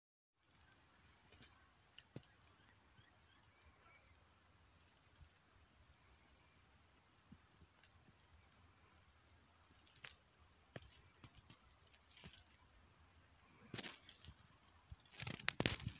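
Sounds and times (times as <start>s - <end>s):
insect trill: 0.4s - 15.9s.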